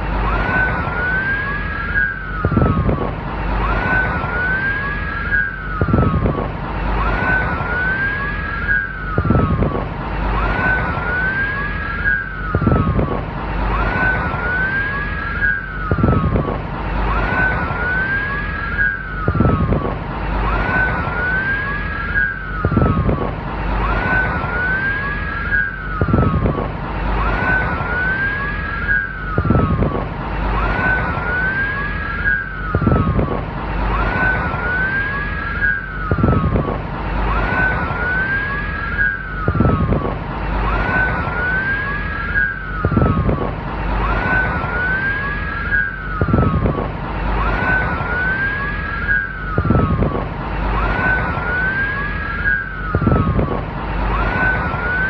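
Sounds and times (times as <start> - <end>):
police car siren: 0.2 - 55.0.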